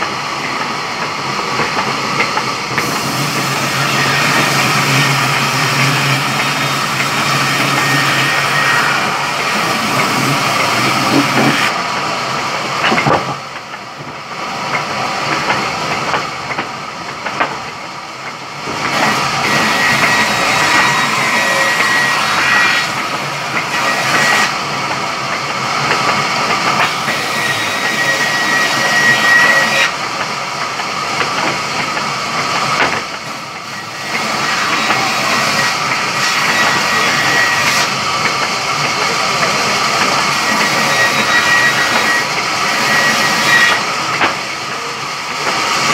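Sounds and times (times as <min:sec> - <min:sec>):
sawmill saw cutting log: 0:01.4 - 0:11.8, 0:18.7 - 0:45.9.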